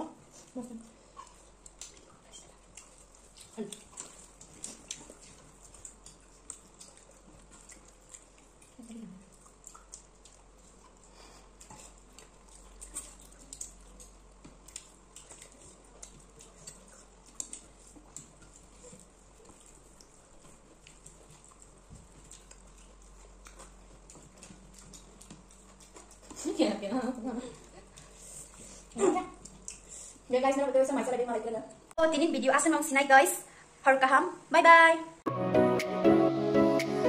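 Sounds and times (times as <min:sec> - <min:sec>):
fingers mixing food on plates: 0:00.0 - 0:31.4
soft chewing: 0:00.0 - 0:32.0.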